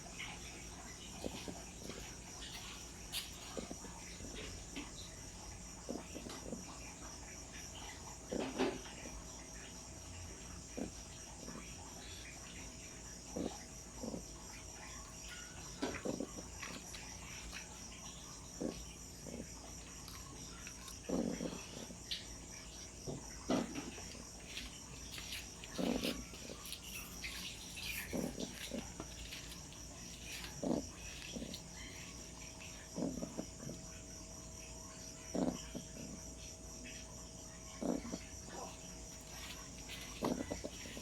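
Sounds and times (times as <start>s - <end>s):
puppy snoring: 0.0s - 4.9s, 5.7s - 7.1s, 10.6s - 12.2s, 12.8s - 41.0s.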